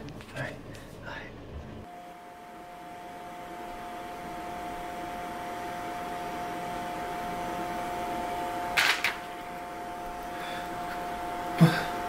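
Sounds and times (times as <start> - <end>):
steady tonal hum with hiss: 0.0 - 12.0.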